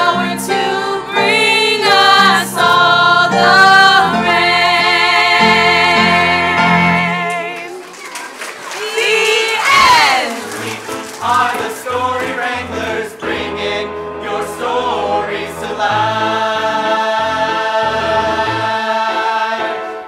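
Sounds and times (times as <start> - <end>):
voices singing: 0.0 - 7.9, 8.7 - 20.0.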